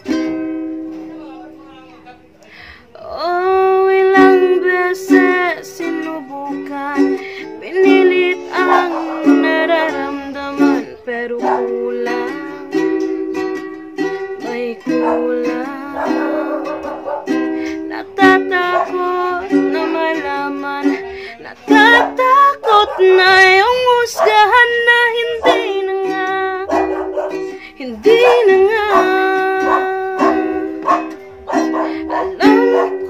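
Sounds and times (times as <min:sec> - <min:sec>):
ukulele strumming chords: 0:00.0 - 0:33.0
woman singing: 0:02.9 - 0:33.0.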